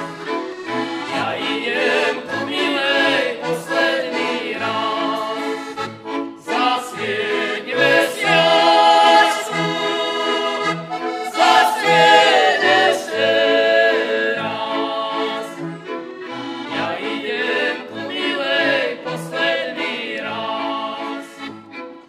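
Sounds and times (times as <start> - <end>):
button accordion: 0.0 - 22.0
violins playing: 0.0 - 22.0.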